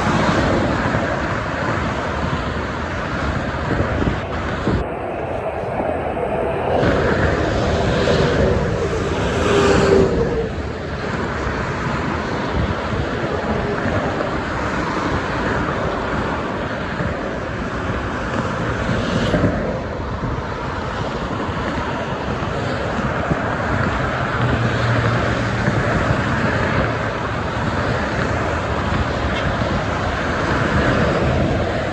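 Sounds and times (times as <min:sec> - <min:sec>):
expressway traffic rushing: 0:00.0 - 0:31.9
trucks and cars passing: 0:00.0 - 0:31.9.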